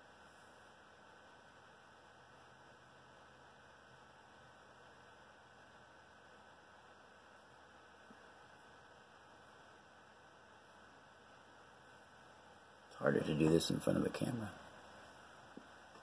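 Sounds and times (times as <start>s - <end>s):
faint steady hiss: 0.0s - 16.0s
thin steady hum: 0.0s - 16.0s.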